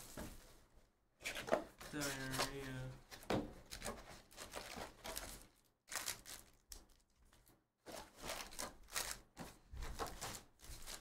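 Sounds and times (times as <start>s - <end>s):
card packs rustling: 1.2s - 11.0s.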